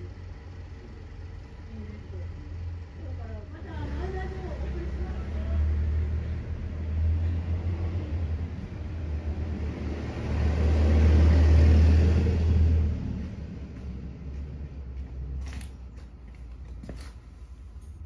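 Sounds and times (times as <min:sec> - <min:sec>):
vehicle passing rumble: 0:00.0 - 0:18.0.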